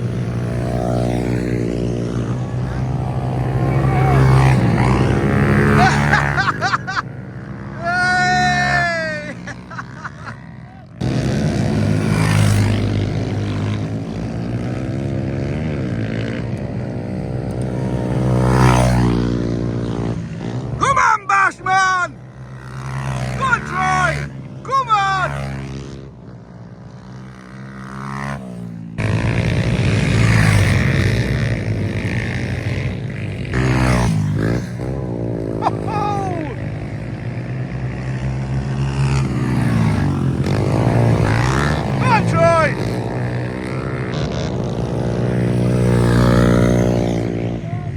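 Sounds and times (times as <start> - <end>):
pit bike engines running hard: 0.0 - 47.9.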